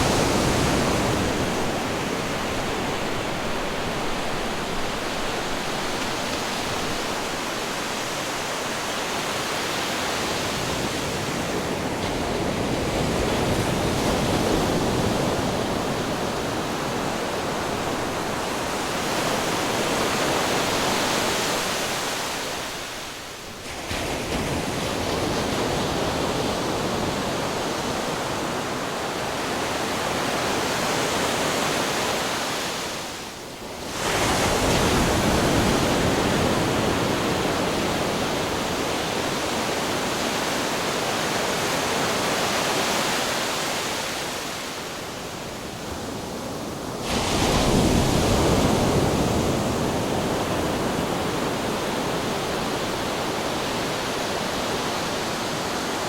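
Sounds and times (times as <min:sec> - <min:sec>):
ocean waves crashing on rocks: 0:00.0 - 0:27.6, 0:33.9 - 0:56.0.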